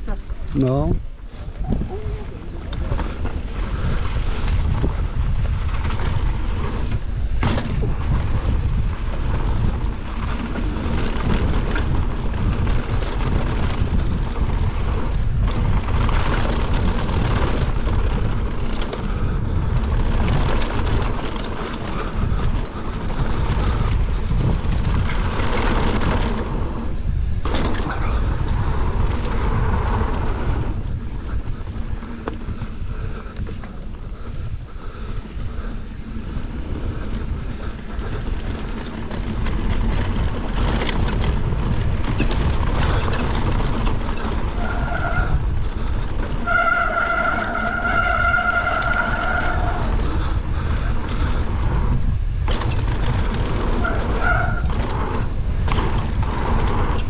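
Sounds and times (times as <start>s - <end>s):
bike tyres rolling on dirt: 0.0s - 57.0s
wind buffeting microphone: 0.0s - 57.0s
bike knocks and rattles: 2.6s - 57.0s.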